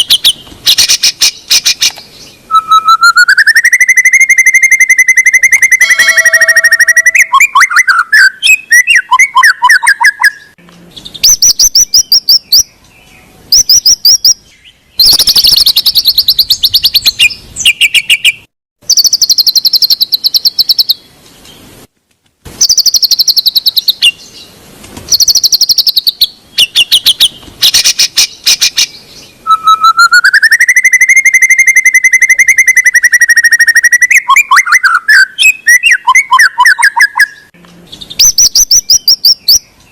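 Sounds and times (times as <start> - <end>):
bird song with trills and whistles: 0.0 - 21.7, 22.6 - 39.9.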